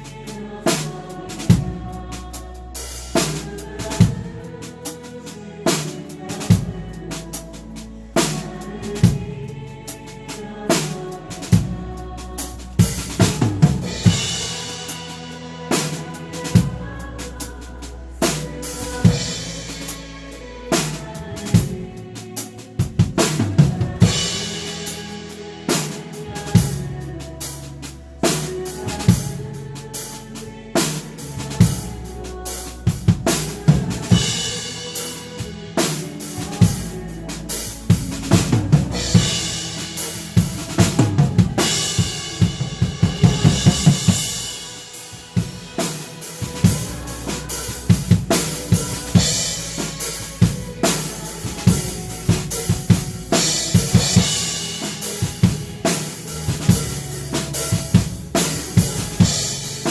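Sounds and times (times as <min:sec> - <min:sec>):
drum kit playing: 0:00.0 - 0:59.9
instrumental accompaniment: 0:00.0 - 0:59.9.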